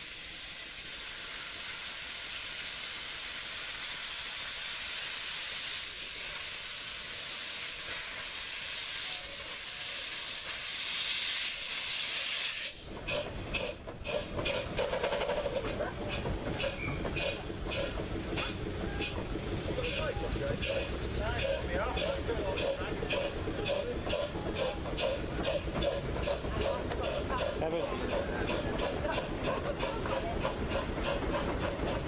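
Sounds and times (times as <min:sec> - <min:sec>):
steam hissing from cylinders: 0:00.0 - 0:32.0
locomotive rumbling: 0:00.2 - 0:32.0.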